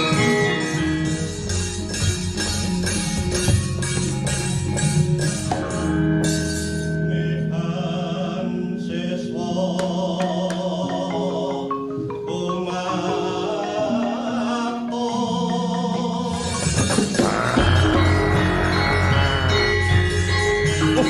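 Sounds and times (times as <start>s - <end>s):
gamelan music: 0.0s - 7.8s, 10.1s - 21.0s.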